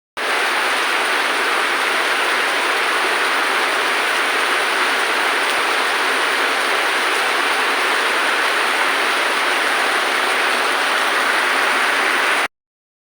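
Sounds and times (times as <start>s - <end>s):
rain falling steadily: 0.2s - 12.5s.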